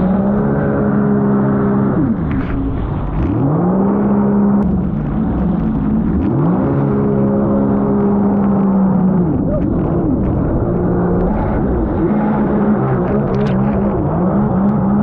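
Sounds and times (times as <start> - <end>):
personal watercraft engine running: 0.0 - 15.0.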